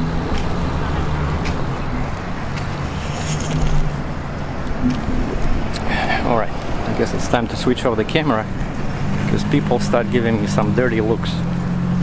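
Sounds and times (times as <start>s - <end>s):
street traffic engine hum: 0.0s - 12.0s.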